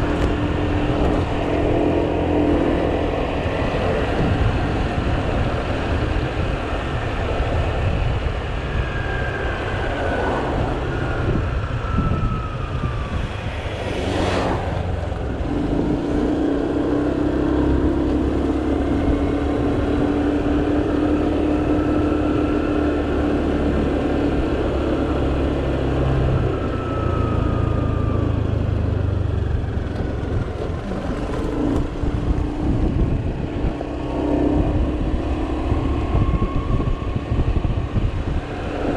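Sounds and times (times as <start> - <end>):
scooter engine drone: 0.0 - 38.9
wind and road noise: 0.0 - 38.9.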